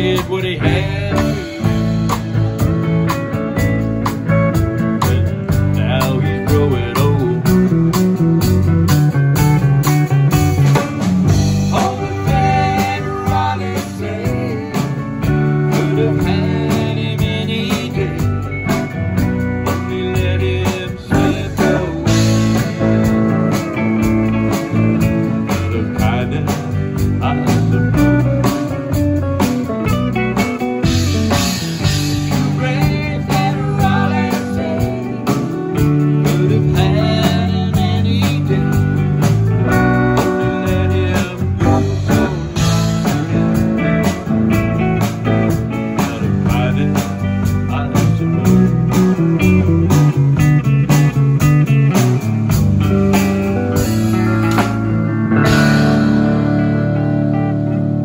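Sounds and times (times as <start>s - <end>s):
country-rock band playing: 0.0s - 58.0s
pedal steel guitar lead line: 0.0s - 58.0s.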